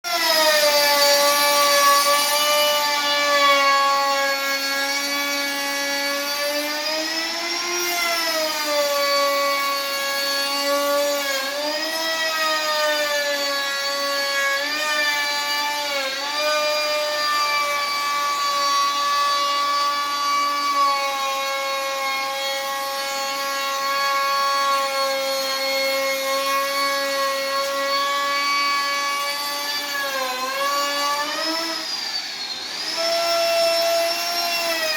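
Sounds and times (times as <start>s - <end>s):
electric saw whining: 0.0s - 34.9s.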